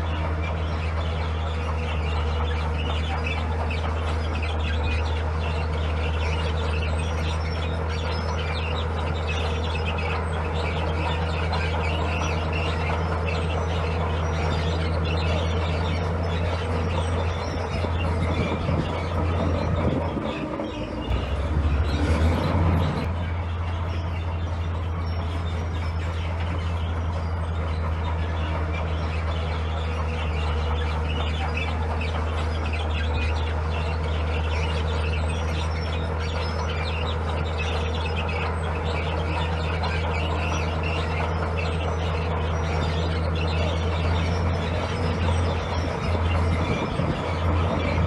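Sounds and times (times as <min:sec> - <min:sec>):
birds chirping: 0:00.0 - 0:48.0
heavy machinery diesel engine: 0:00.0 - 0:48.0.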